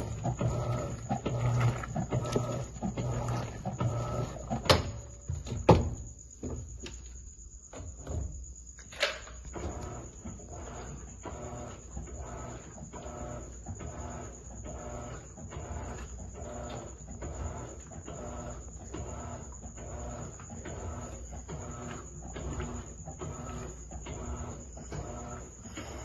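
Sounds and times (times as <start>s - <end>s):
washing machine agitating: 0.0s - 6.6s, 9.4s - 26.0s.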